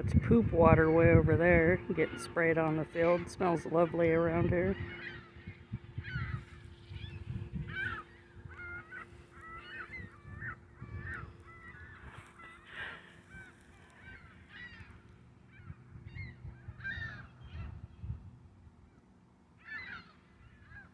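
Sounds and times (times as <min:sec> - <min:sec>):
faint steady hum: 0:00.0 - 0:20.9
gulls calling: 0:00.0 - 0:20.9.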